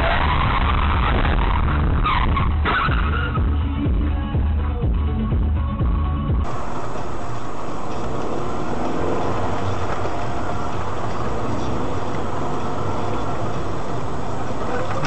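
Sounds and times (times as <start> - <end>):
car engine and road noise: 0.0 - 4.2, 6.4 - 15.0.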